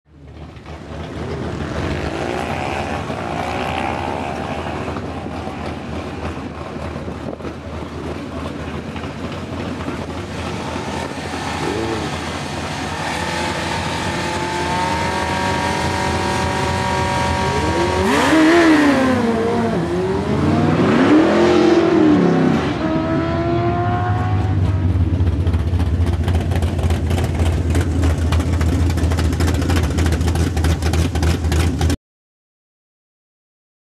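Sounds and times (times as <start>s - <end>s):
motorcycle engine revving: 0.7s - 7.0s, 8.5s - 32.0s.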